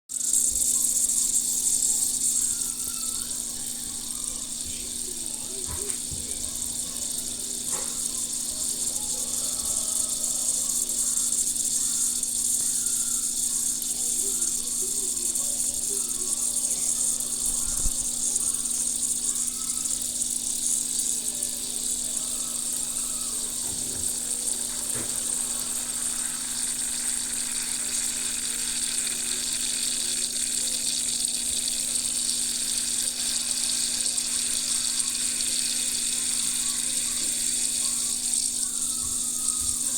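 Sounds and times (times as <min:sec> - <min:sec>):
dry ice squeaking and chirping: 0:00.1 - 0:39.9.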